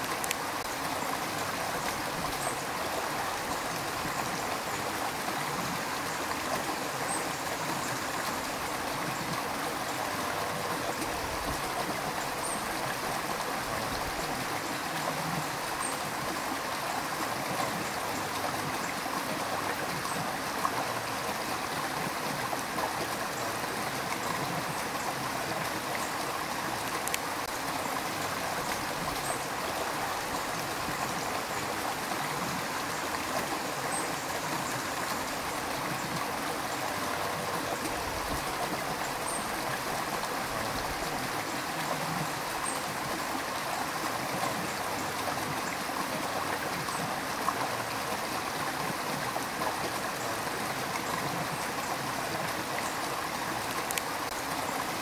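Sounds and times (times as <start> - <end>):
water flowing over stones: 0.0 - 55.0.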